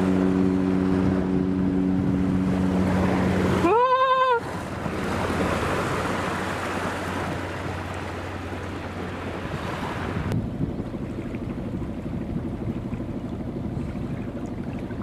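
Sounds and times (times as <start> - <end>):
wind buffeting microphone: 0.0 - 3.7, 4.3 - 15.0
boat engine hum: 0.0 - 15.0
water rushing along hull: 0.0 - 15.0.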